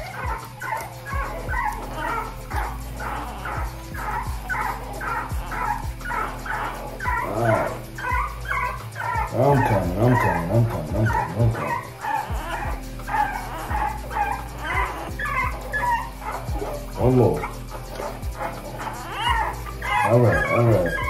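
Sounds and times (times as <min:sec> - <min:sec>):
dog whining: 0:00.0 - 0:21.0
puppy squealing: 0:00.0 - 0:21.0.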